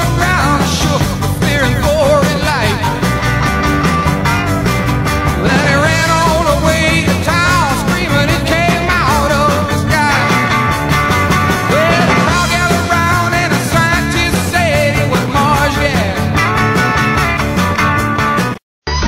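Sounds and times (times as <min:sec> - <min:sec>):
sliding lead melody: 0:00.0 - 0:19.0.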